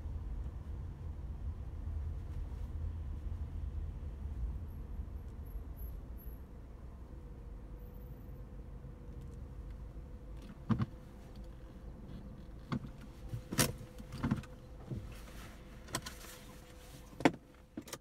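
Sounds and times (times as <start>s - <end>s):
low steady rumble: 0.0s - 17.8s.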